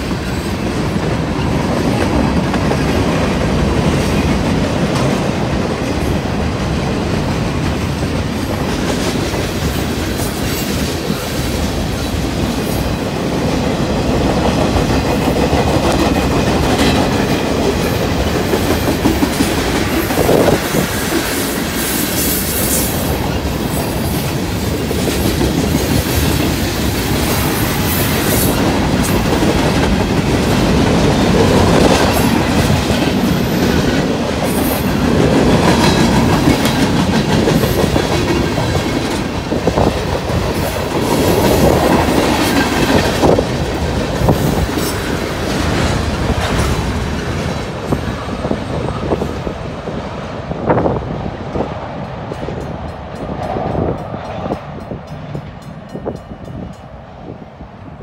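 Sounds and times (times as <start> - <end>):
freight train rumbling and rattling: 0.0 - 58.0.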